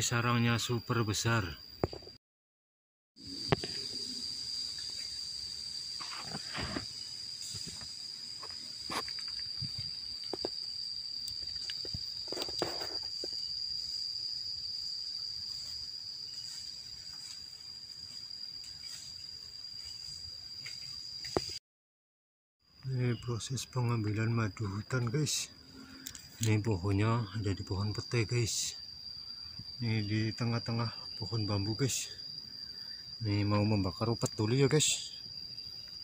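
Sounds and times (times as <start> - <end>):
insects shrilling: 3.2 - 21.6, 22.8 - 36.0.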